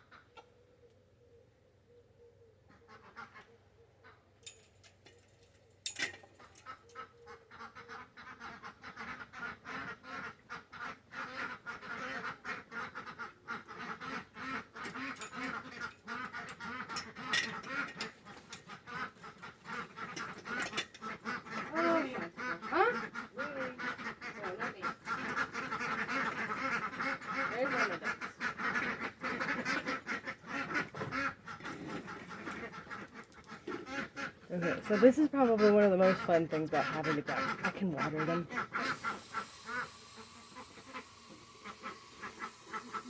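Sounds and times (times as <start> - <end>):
ducks quacking: 2.7 - 4.2, 6.4 - 43.0.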